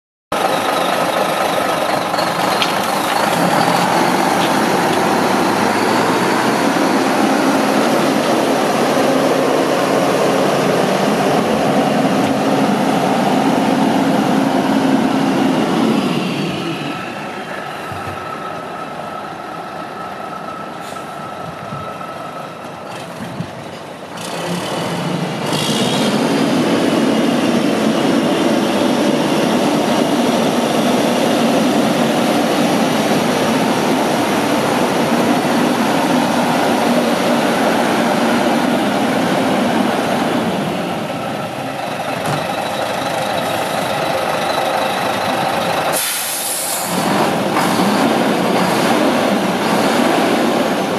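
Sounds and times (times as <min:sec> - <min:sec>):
truck diesel engine: 0:00.3 - 0:50.9.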